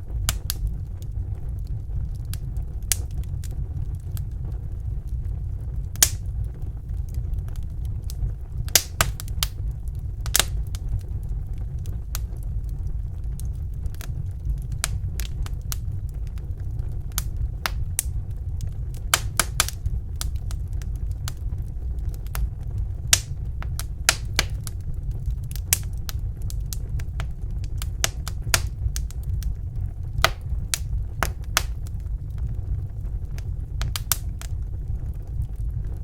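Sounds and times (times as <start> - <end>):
fire crackling and popping: 0.0 - 36.0
low fire rumble: 0.0 - 36.0.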